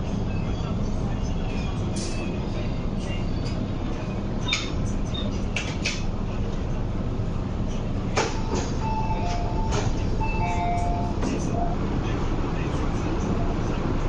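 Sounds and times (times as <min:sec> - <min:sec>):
train interior low hum: 0:00.0 - 0:14.0.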